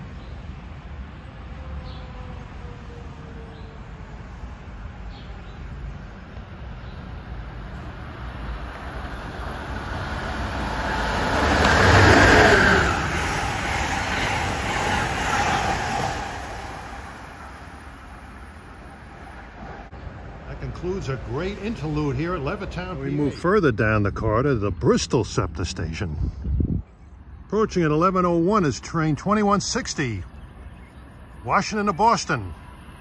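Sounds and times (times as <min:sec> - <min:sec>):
train passing at speed: 0:00.0 - 0:23.7, 0:27.0 - 0:33.0.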